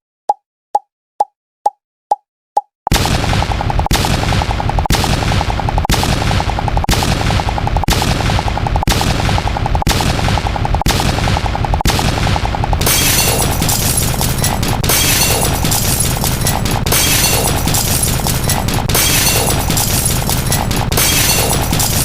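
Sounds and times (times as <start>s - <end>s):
rapid popping sound effect: 0.3s - 22.0s.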